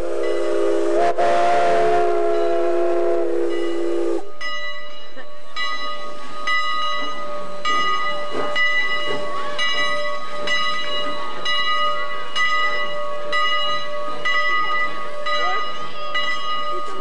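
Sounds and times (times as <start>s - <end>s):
locomotive bell ringing: 0.0s - 1.1s, 1.9s - 17.0s.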